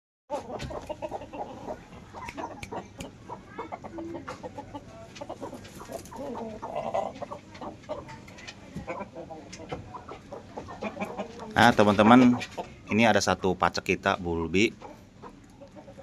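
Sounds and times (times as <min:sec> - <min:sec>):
chicken clucking: 0:00.3 - 0:13.4, 0:14.0 - 0:16.0.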